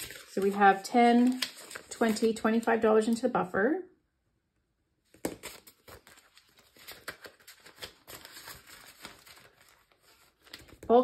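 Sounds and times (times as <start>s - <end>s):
banknotes and envelopes crinkling: 0.0s - 3.2s, 5.1s - 11.0s.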